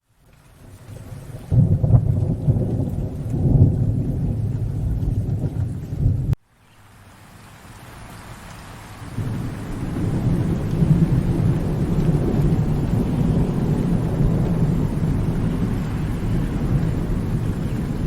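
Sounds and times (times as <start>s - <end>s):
rain hiss: 0.0s - 18.0s
thunder rumbling: 0.6s - 6.4s, 9.0s - 18.0s.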